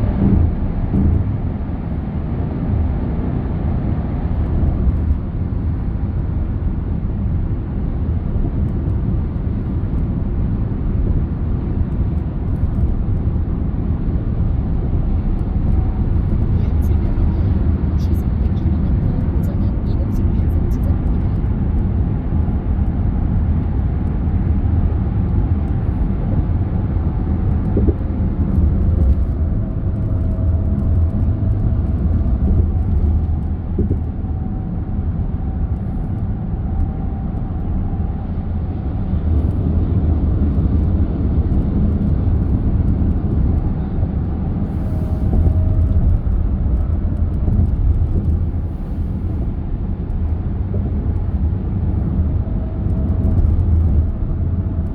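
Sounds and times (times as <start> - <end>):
car tyres and engine rumble: 0.0 - 54.9.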